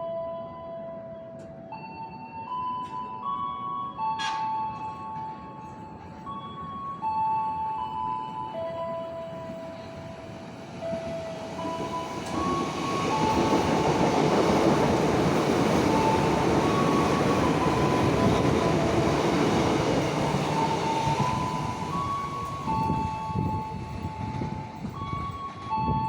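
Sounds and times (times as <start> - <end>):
electric train passing: 3.2 - 26.0.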